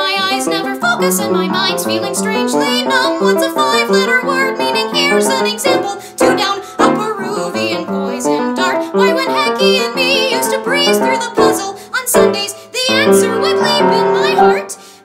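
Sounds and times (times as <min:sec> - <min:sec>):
piano accompaniment: 0:00.0 - 0:15.0
woman singing: 0:00.0 - 0:15.0.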